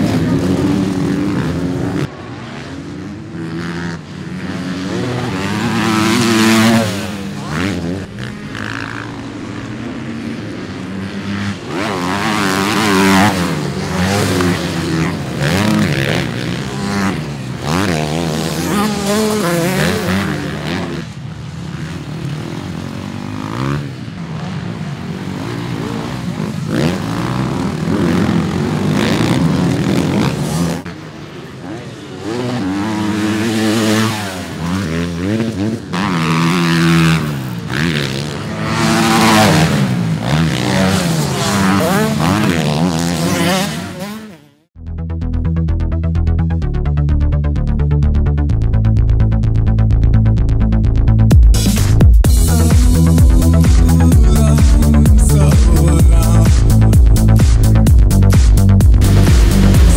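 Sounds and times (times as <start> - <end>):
dirt bike engines revving: 0.0 - 44.7, 47.5 - 59.9.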